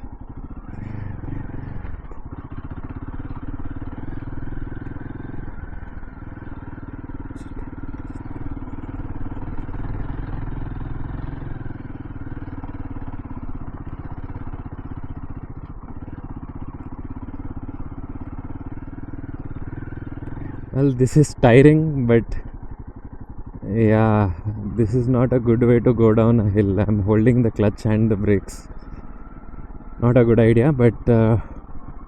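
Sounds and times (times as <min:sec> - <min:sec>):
motorcycle engine at low revs: 0:00.0 - 0:32.0.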